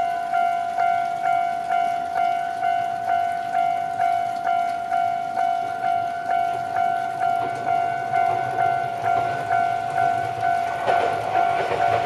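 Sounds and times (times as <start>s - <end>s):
level crossing alarm bell ringing: 0.0s - 12.0s.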